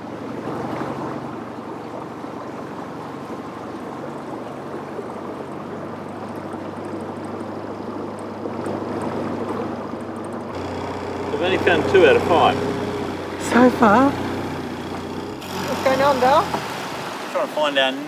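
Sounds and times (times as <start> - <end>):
outboard motor running: 0.0 - 18.0
water washing along hull: 0.0 - 18.0.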